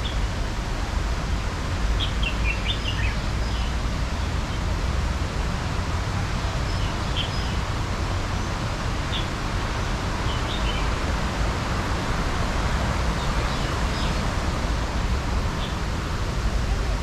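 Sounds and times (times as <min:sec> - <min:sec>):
low rumble and hiss: 0:00.0 - 0:17.0.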